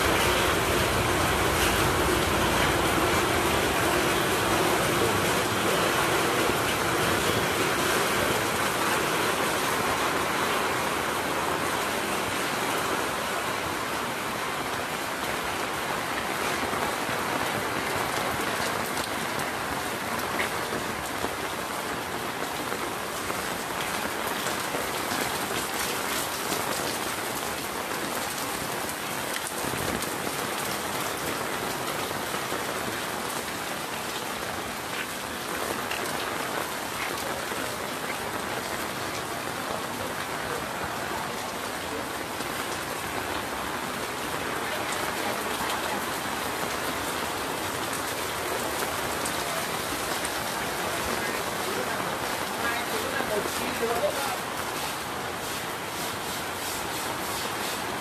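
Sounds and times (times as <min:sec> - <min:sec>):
rain on hard surfaces: 0:00.0 - 0:58.0.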